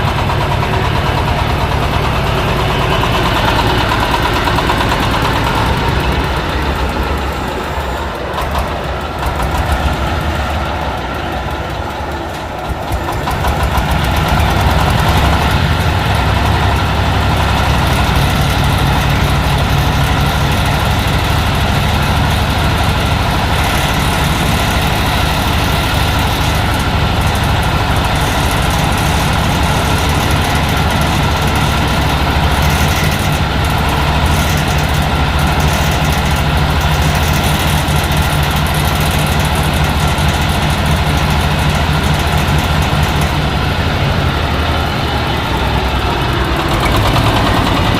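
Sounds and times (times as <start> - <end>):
diesel engine driving corn sheller: 0.0 - 47.9.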